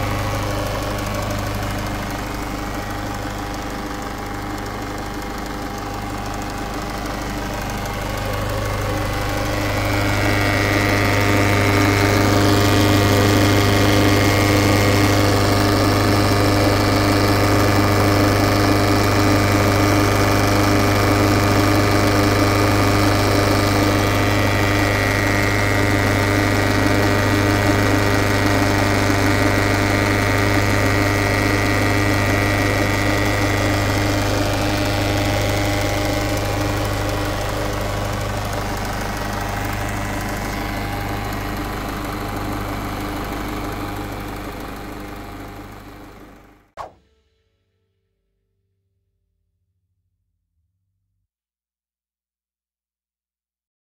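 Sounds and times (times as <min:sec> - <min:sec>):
diesel engine running: 0:00.0 - 0:47.0
engine whine: 0:00.0 - 0:47.4.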